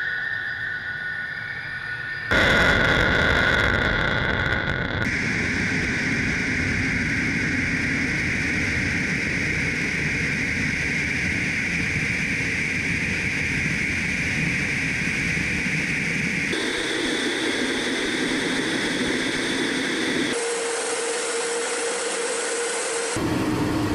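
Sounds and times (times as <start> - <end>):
airflow over airframe: 2.3 - 23.9
jet engines roaring: 2.3 - 23.9.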